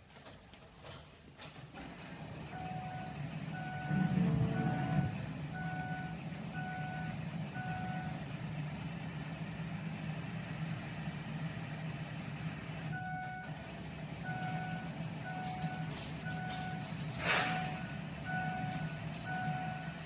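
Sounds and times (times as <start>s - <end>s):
diesel engine idling: 1.8s - 20.0s.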